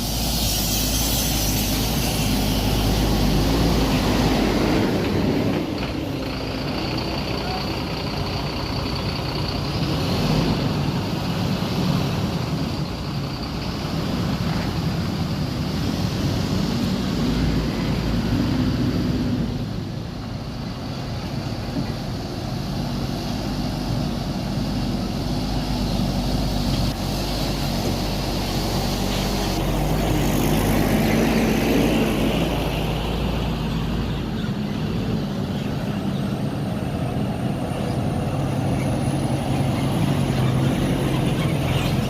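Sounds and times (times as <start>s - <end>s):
diesel bus engine running: 0.0s - 42.0s.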